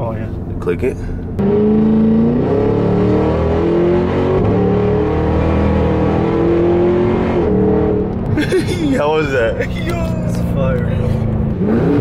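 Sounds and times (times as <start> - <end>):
car engine at full throttle: 0.0 - 12.0.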